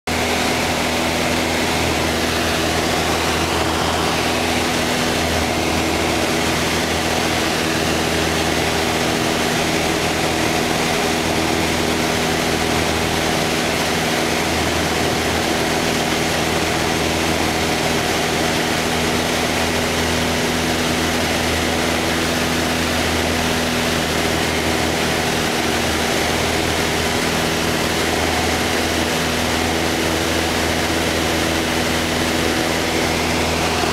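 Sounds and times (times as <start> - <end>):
light aircraft engine droning: 0.1 - 33.9
rushing air: 0.1 - 33.9.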